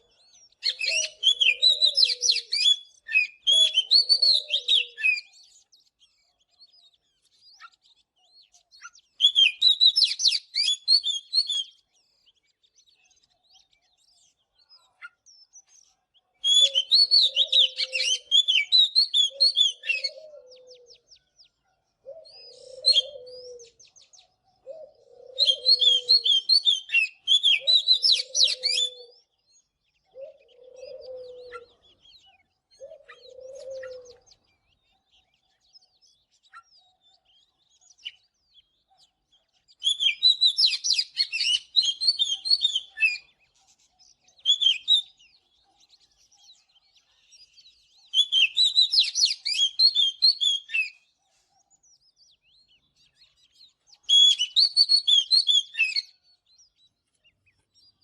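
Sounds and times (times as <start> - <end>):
magpie-robin whistled song: 0.0 - 58.0.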